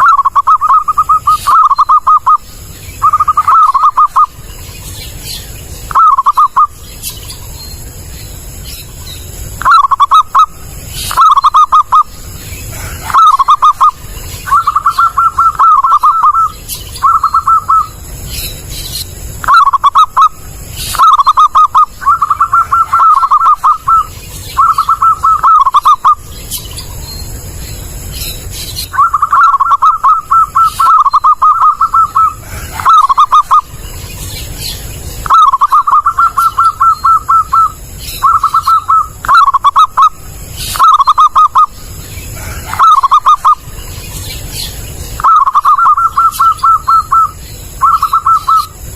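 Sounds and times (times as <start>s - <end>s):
dove cooing in trilled notes: 0.0s - 7.5s, 9.6s - 18.7s, 19.3s - 27.0s, 28.4s - 48.9s.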